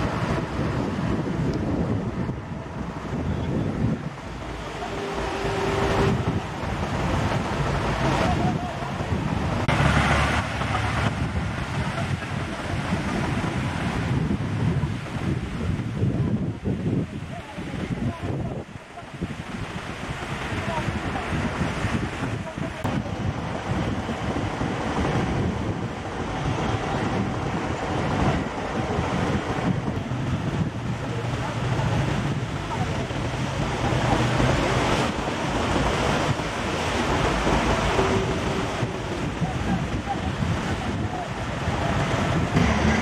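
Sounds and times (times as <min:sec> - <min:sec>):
small waves washing onto beach: 0:00.0 - 0:43.0
wind buffeting microphone: 0:00.0 - 0:43.0.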